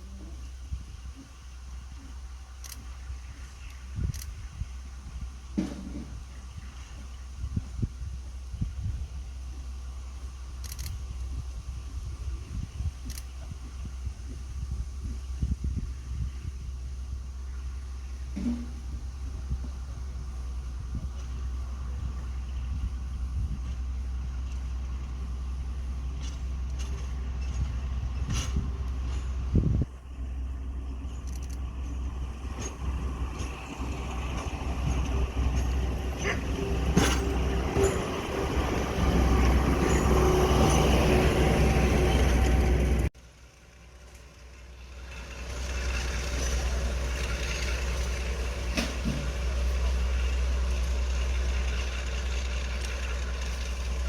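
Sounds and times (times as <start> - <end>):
diesel locomotive engine rumbling: 0.0 - 54.0.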